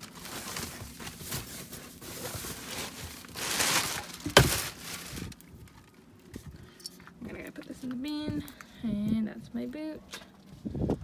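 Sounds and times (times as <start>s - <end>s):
rustling and shuffling: 0.0s - 11.0s.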